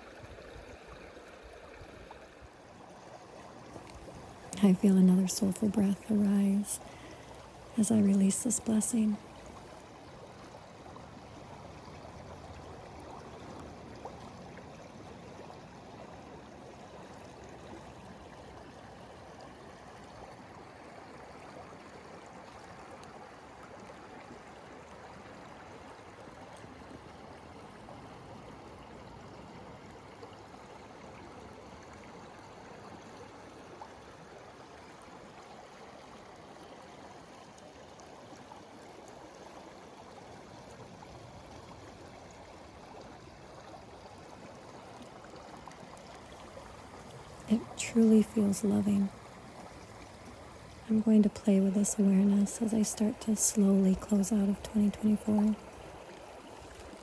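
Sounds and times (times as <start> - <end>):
small stream flowing: 0.0 - 57.0.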